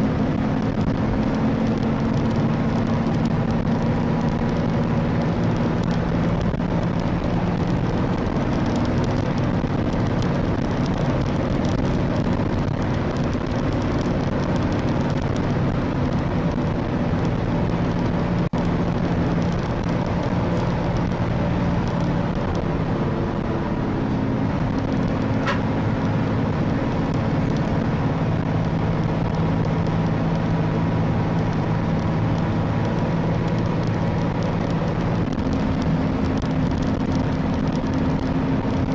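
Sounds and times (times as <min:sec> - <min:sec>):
car engine hum: 0:00.0 - 0:38.9
road noise: 0:00.0 - 0:38.9.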